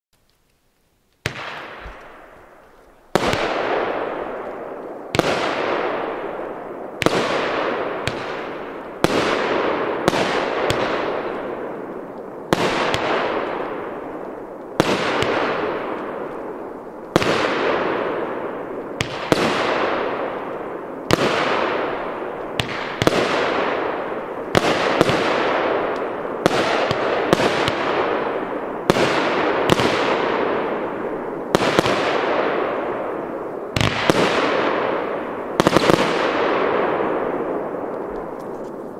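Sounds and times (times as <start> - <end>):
firework bangs with hiss: 1.2 - 38.9.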